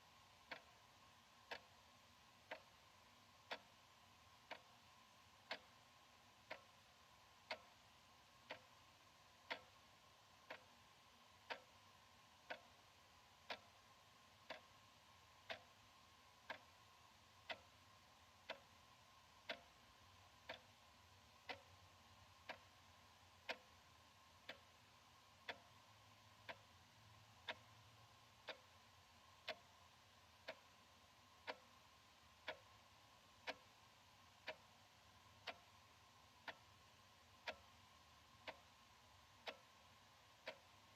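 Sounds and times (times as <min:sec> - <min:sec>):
wall clock ticking: 0:00.0 - 0:40.9.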